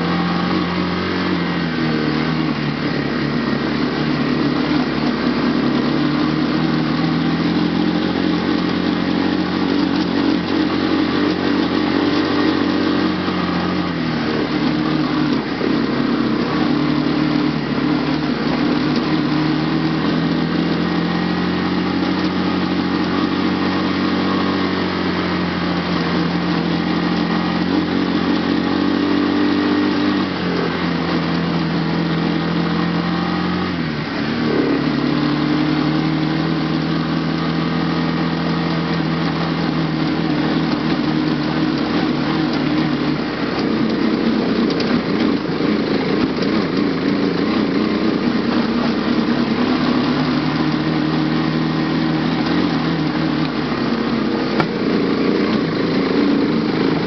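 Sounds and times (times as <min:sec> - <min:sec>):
quad engine running hard: 0:00.0 - 0:57.0.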